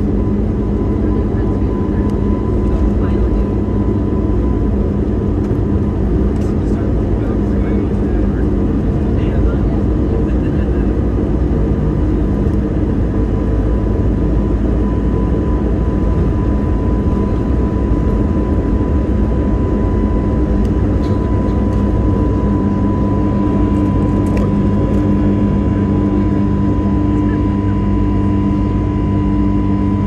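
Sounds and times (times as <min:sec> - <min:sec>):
jet engine hum and cabin rumble: 0:00.0 - 0:30.0.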